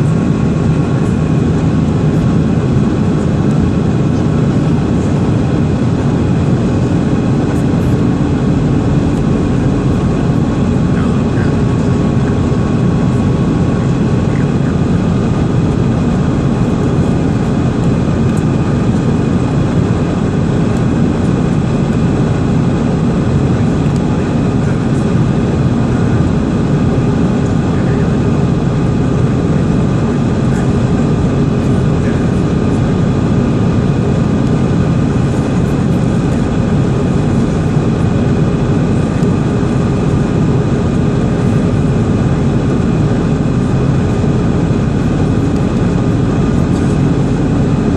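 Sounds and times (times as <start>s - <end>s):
jet engines and rushing air: 0.0s - 47.9s.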